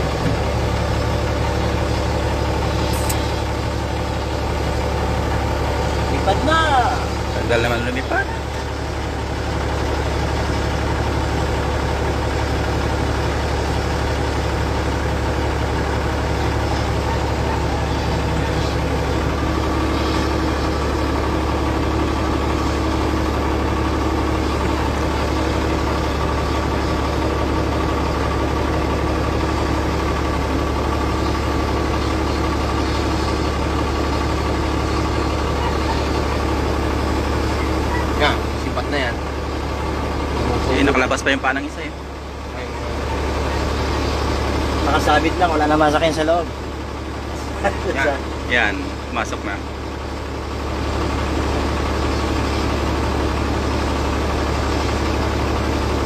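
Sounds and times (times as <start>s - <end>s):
helicopter engines and rotor: 0.0s - 56.0s
turbine whine: 0.0s - 56.0s.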